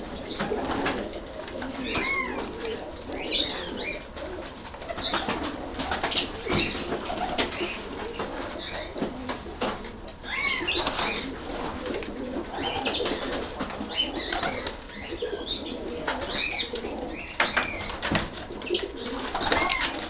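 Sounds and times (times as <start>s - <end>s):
pigeons cooing: 0.0s - 20.0s
wing flaps and scrabbling: 0.3s - 10.0s, 10.6s - 20.0s.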